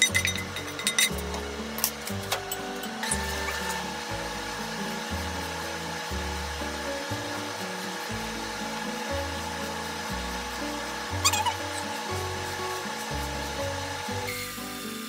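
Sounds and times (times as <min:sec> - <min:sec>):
background music with bass: 0:00.0 - 0:15.0.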